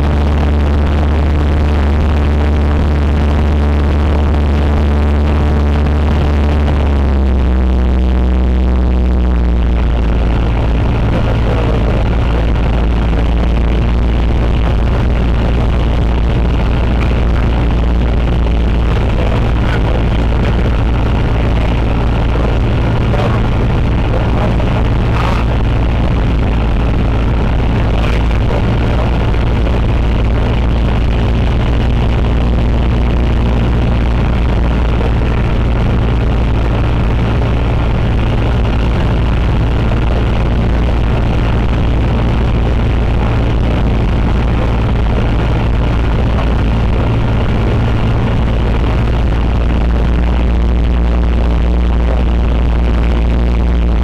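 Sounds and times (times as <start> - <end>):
propeller plane engine drone: 0.0 - 54.0.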